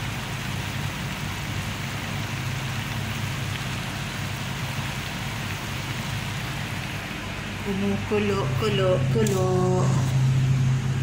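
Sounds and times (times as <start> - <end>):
broth simmering in a wok: 0.0 - 11.0
gas burner rumble: 0.0 - 11.0.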